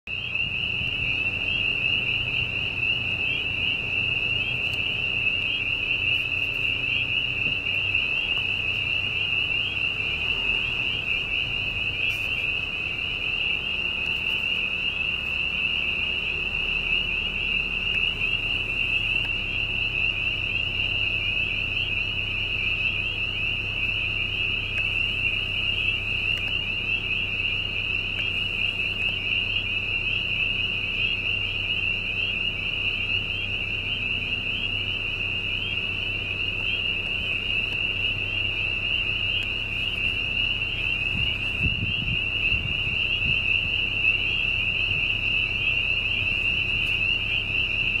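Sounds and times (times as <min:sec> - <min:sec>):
drilling rig drone: 0:00.1 - 0:48.0
frogs peeping chorus: 0:00.1 - 0:48.0.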